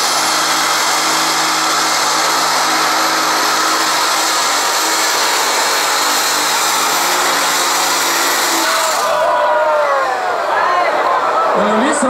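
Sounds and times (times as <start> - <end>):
tractor engine at full power: 0.0 - 10.5.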